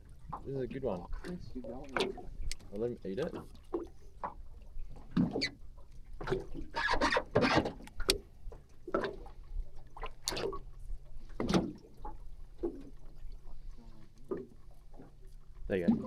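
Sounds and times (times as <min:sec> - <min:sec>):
water splashing against boat: 0:00.0 - 0:16.0.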